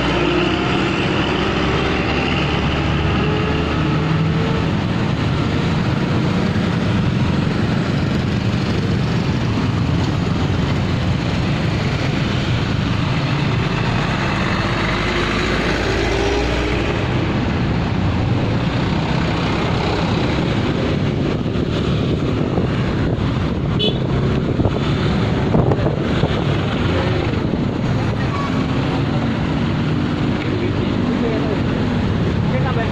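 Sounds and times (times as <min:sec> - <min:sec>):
motorcycles trucks and bus running: 0:00.0 - 0:32.9.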